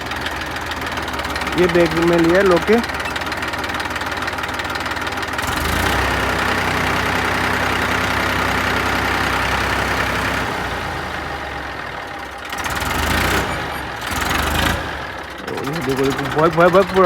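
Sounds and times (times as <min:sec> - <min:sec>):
tractor diesel engine straining: 0:00.0 - 0:17.0.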